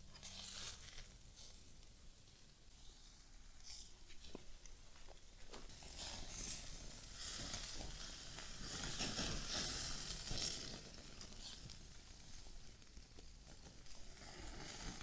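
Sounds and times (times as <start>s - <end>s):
meat patty sizzling on grill: 0.0s - 15.0s.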